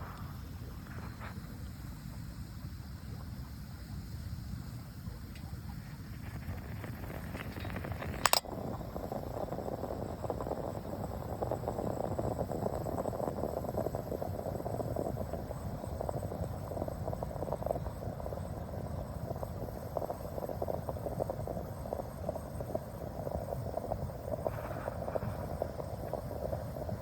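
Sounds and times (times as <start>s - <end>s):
gas burner rushing and crackling: 5.0s - 27.0s.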